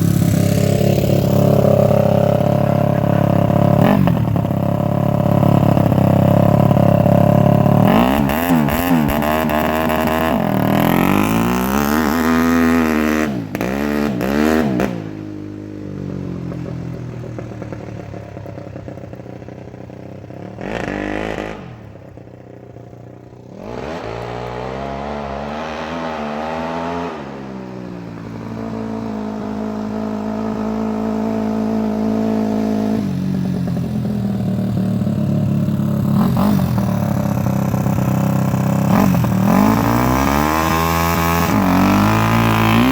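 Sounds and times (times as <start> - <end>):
dirt bike engine revving: 0.0 - 15.3, 20.4 - 22.2, 23.4 - 42.9.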